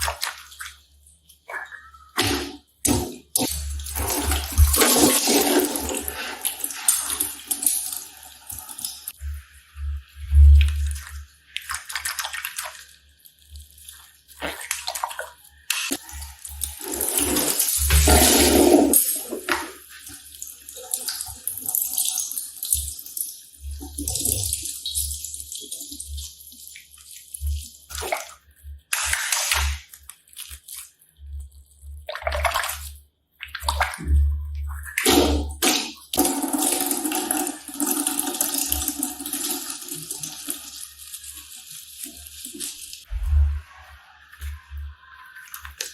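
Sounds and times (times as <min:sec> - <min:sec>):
slime squelching and crackling: 0:00.0 - 0:36.8, 0:40.9 - 0:45.9.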